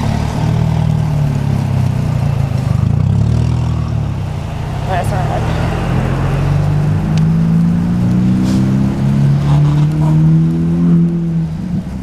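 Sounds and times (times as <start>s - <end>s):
low rushing noise: 0.0s - 12.0s
vehicle engine pulling away: 0.0s - 12.0s.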